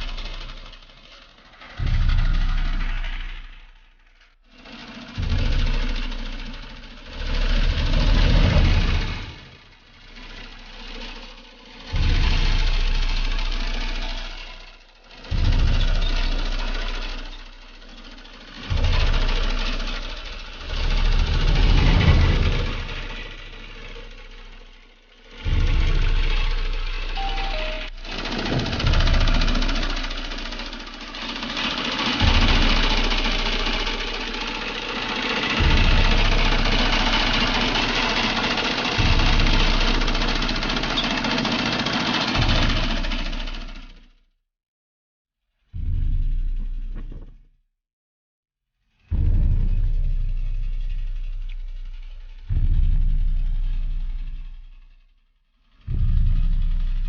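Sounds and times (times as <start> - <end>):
engine surging: 0.0 - 44.1, 49.1 - 55.0, 55.7 - 57.0.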